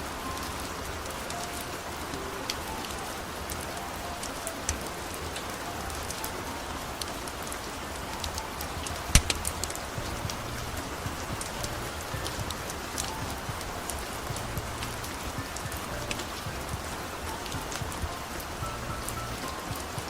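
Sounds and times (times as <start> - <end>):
steady rain hiss: 0.0 - 20.0
wood fire crackling: 0.0 - 20.0.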